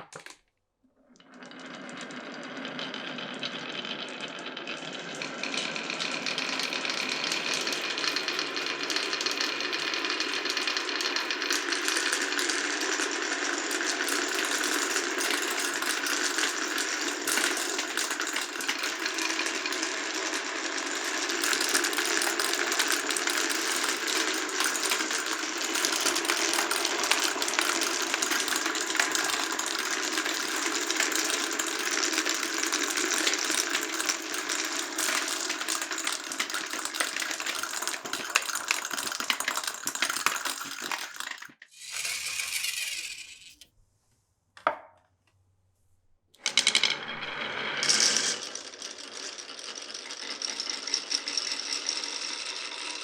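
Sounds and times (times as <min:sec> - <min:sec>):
marbles rolling on wooden track: 0:01.1 - 0:43.6, 0:46.4 - 0:53.0.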